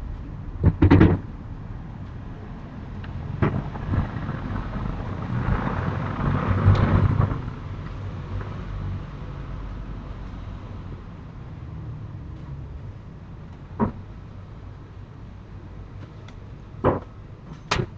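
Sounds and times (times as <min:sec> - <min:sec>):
low rumbling noise: 0:00.0 - 0:17.9.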